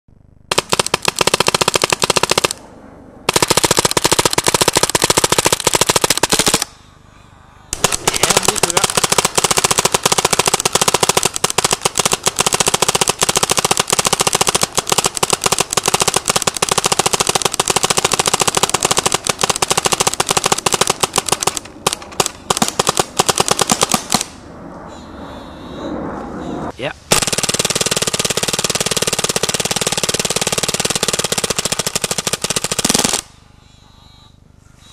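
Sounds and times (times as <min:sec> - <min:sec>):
paintball marker rapid firing: 0:00.5 - 0:02.6, 0:03.3 - 0:06.7, 0:07.8 - 0:24.4, 0:27.1 - 0:33.3.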